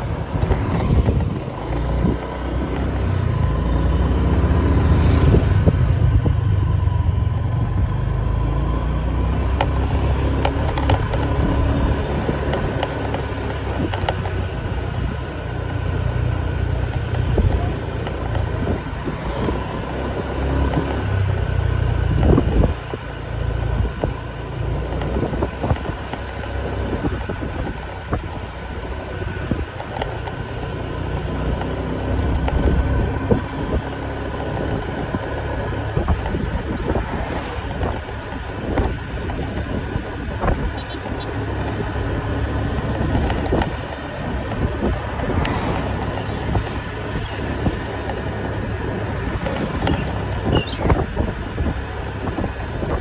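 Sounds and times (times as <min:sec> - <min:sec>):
wind buffeting microphone: 0:00.0 - 0:03.5, 0:04.2 - 0:08.2, 0:16.6 - 0:30.5, 0:31.5 - 0:53.0
engine noise: 0:00.0 - 0:53.0
street traffic: 0:00.0 - 0:53.0.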